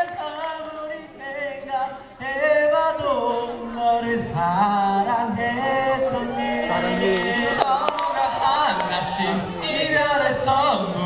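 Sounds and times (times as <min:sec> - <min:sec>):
men singing a cappella: 0:00.0 - 0:11.0.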